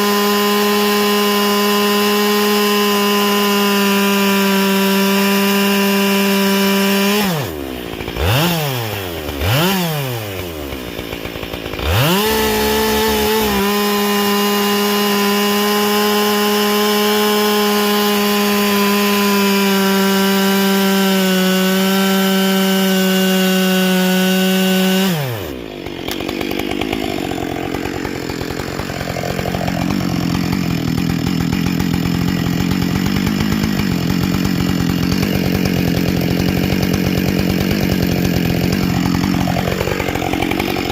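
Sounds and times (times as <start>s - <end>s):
chainsaw cutting into wood: 0.0s - 40.9s
chainsaw running at high revs: 0.0s - 40.9s.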